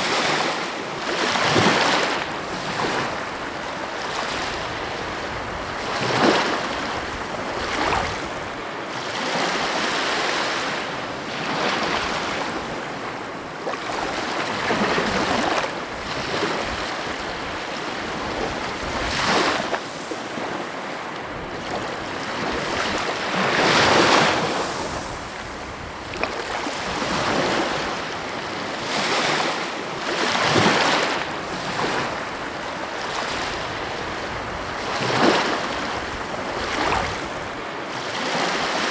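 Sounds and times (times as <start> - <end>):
wind on microphone: 0.0 - 9.8, 10.9 - 38.9
sea waves breaking on shore: 0.0 - 38.9.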